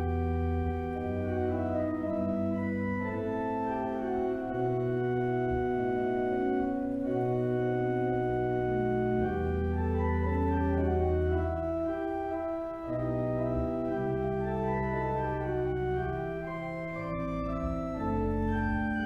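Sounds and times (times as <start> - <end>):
organ playing slow chords: 0.0 - 19.0.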